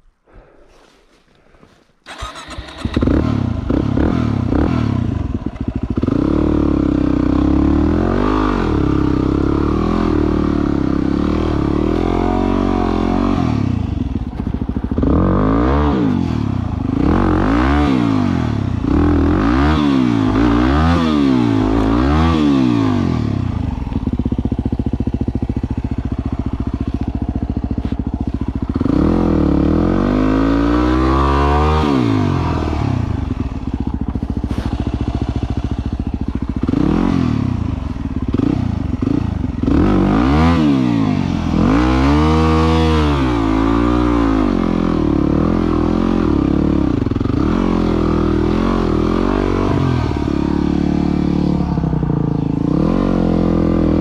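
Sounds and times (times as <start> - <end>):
engine revving: 2.1 - 54.0.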